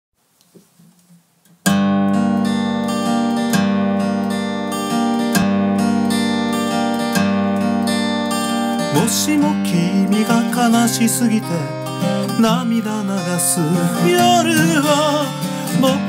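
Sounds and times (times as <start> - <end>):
acoustic guitar strumming chords: 1.6 - 16.0.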